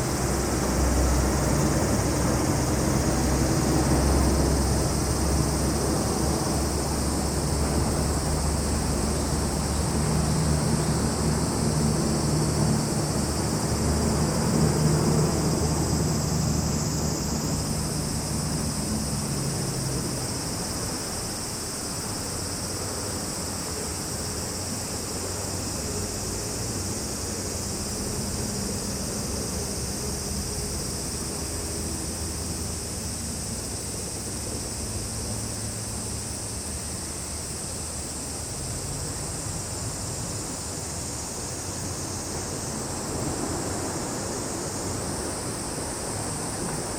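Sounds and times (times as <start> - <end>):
insects chirring: 0.0 - 46.9.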